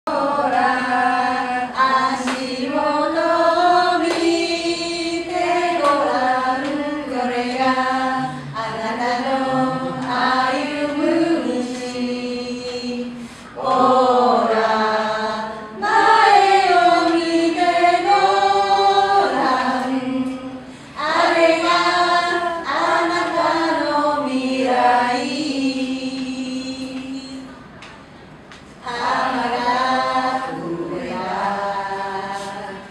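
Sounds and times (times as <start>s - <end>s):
woman singing unaccompanied: 0.1s - 27.5s.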